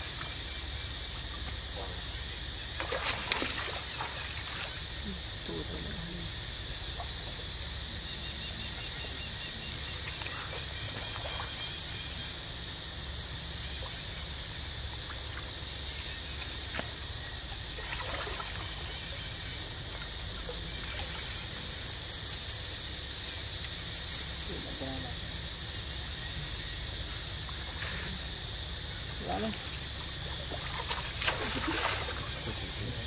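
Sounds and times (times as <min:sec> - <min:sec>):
high insect drone: 0:00.0 - 0:33.0
stream water trickling: 0:00.0 - 0:33.0.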